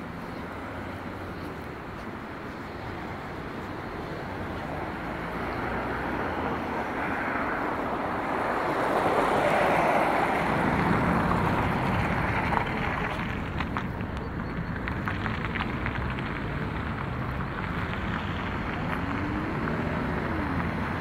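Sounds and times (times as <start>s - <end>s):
cars passing by: 0.0s - 21.0s.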